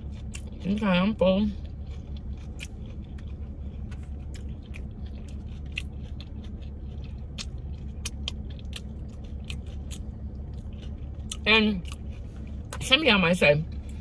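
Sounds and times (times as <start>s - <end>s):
wet open-mouthed chewing: 0.0s - 12.8s
low hum: 0.0s - 14.0s.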